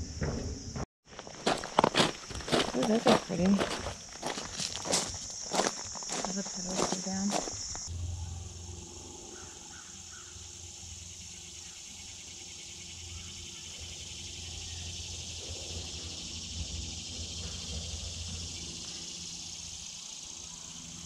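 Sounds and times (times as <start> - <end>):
crickets and katydids trilling: 0.0 - 21.0.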